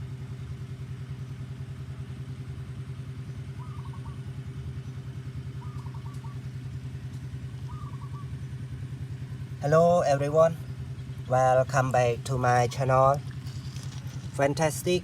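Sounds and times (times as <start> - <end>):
motor running with low pulse: 0.0 - 15.0.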